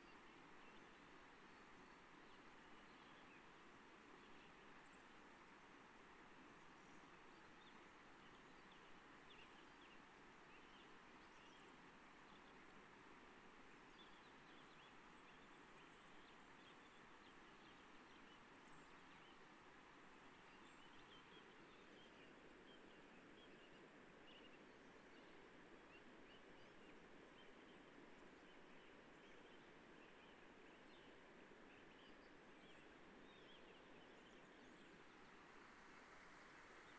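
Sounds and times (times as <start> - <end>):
faint birds chirping: 0.0 - 36.9.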